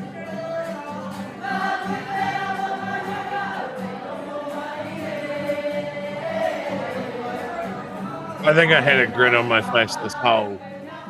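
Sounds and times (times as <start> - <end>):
group singing together: 0.0 - 11.0.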